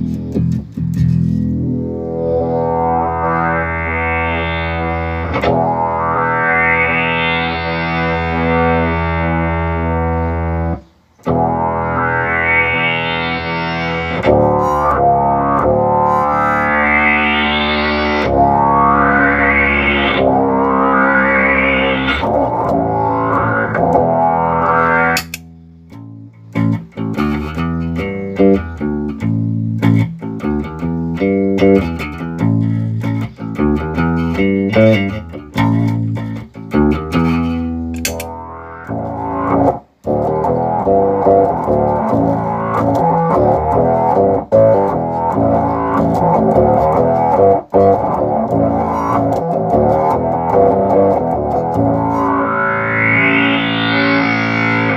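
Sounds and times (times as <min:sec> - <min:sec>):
synth bass guitar notes: 0:00.0 - 0:54.9.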